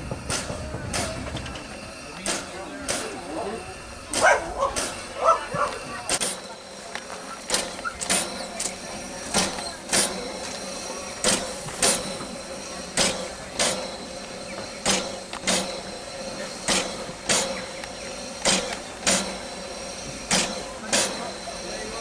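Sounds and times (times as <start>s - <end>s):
steam hiss: 0.0s - 22.0s
steam locomotive chuffing: 0.0s - 22.0s.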